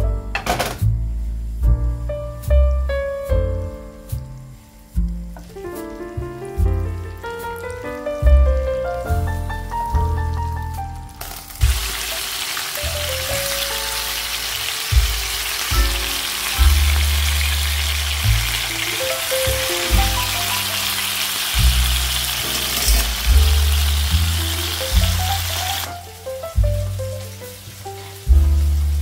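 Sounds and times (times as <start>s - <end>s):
background music with bass line: 0.0s - 12.2s, 12.8s - 29.0s
chicken sizzling in a frying pan: 3.6s - 29.0s.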